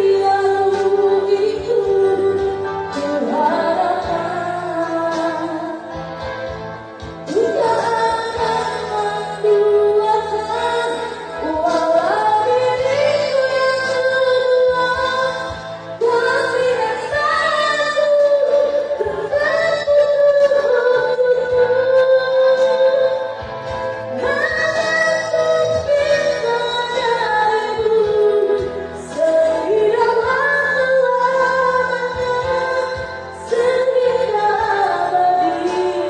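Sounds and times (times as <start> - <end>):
backing music: 0.0 - 36.0
woman singing slow melody: 0.0 - 36.0.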